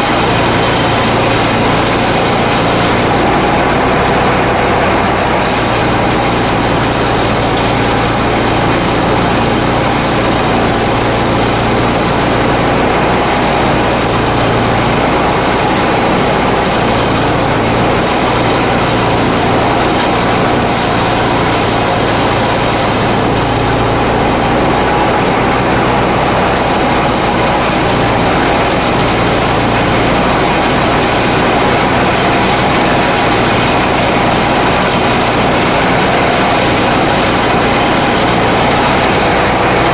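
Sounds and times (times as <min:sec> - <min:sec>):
threshing machine engine drone: 0:00.0 - 0:39.9.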